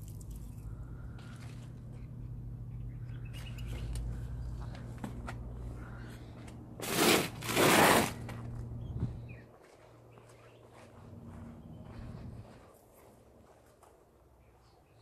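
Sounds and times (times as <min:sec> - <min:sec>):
steady low hum: 0:00.0 - 0:06.8, 0:08.2 - 0:14.6.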